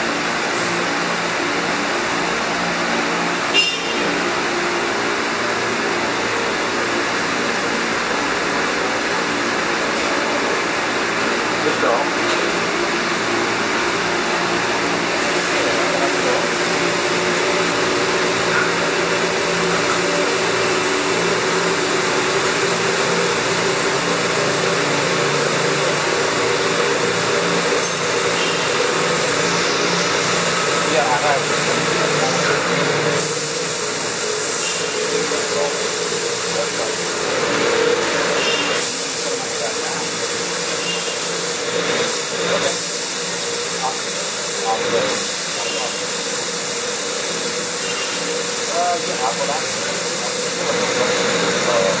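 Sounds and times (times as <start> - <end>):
milling machine whirring: 0.0 - 52.0.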